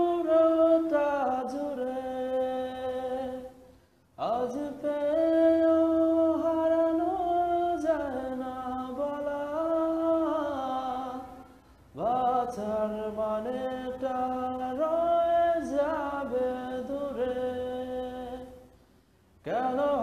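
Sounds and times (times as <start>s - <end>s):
man singing unaccompanied: 0.0s - 18.7s, 19.4s - 20.0s.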